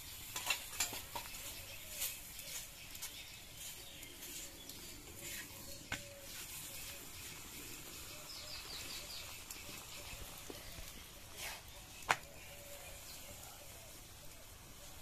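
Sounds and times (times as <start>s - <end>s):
birds chirping: 0.0s - 15.0s
faint frying sizzle: 0.0s - 15.0s.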